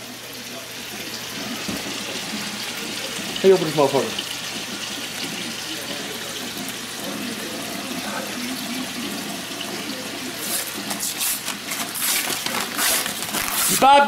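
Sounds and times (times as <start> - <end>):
bacon sizzling in a frying pan: 0.0 - 14.0.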